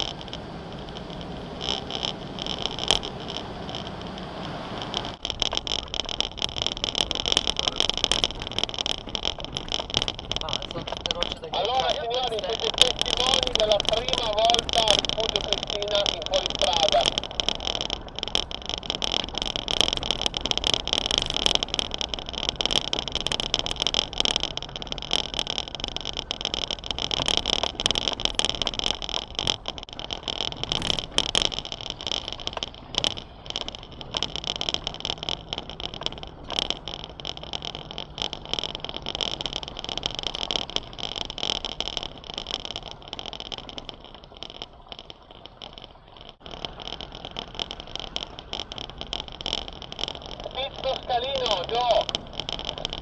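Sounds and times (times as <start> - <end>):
knocks and rattles: 0.0 - 53.0
off-road vehicle engine running: 0.0 - 53.0.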